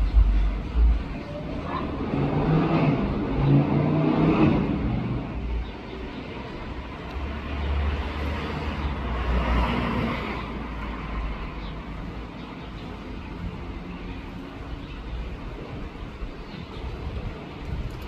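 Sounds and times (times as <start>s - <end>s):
road vehicle passing: 0.0s - 17.9s
outdoor background noise: 0.0s - 18.0s.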